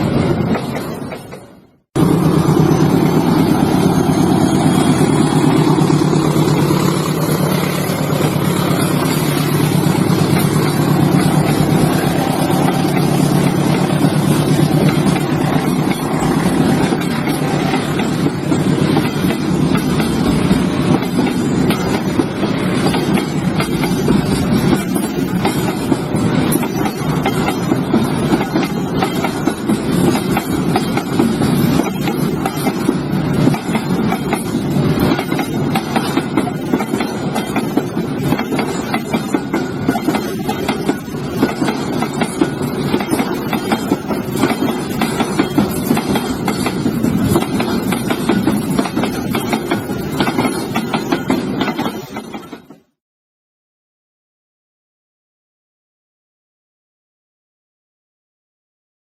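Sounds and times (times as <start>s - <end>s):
train rumbling on rails: 0.0s - 52.9s
wheels clicking over track: 0.4s - 52.8s.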